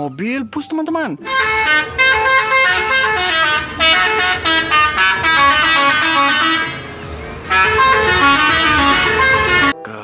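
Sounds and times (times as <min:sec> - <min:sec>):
multi-tone musical bus horn: 0:01.2 - 0:09.8.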